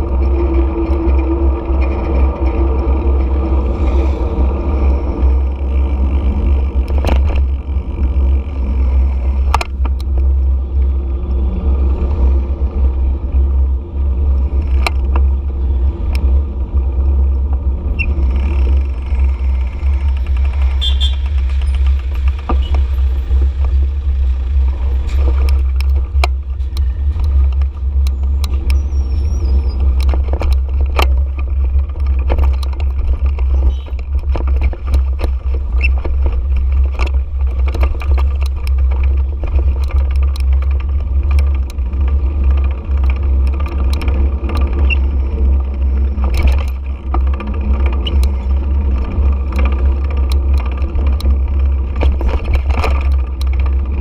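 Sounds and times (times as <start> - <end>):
motorcycle engine: 0.0 - 54.0
wind rumble: 0.0 - 54.0
sharp clicks and knocks: 5.2 - 11.0, 14.3 - 16.4, 17.4 - 54.0.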